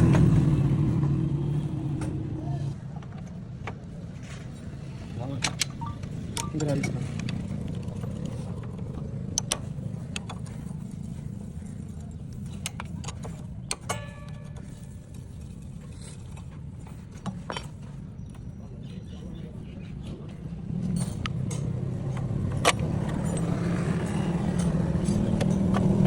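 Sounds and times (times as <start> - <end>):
motorcycle engine running: 0.0 - 5.2, 6.0 - 17.1, 20.2 - 26.0.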